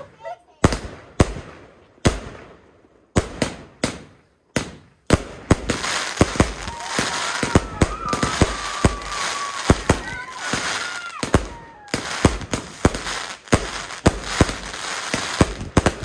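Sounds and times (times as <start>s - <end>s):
fireworks bangs: 0.0s - 16.0s
fireworks crackling: 0.0s - 16.0s
whistling fireworks: 3.2s - 16.0s.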